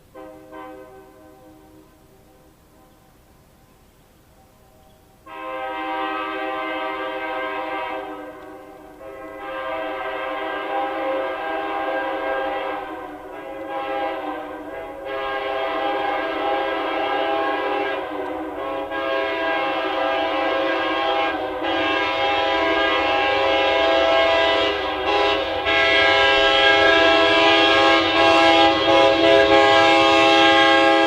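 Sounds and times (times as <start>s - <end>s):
locomotive air horn blasts: 0.0s - 2.5s, 5.2s - 31.0s.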